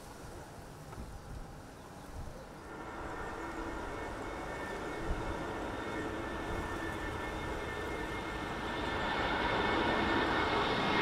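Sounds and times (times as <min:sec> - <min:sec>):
jet engines hum with high whine: 0:00.0 - 0:11.0.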